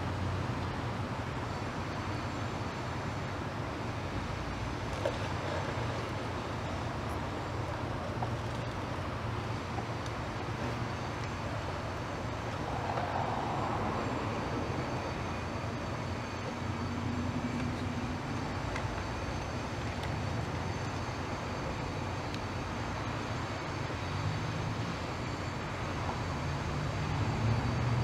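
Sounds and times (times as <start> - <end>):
distant traffic rumble: 0.0 - 28.0.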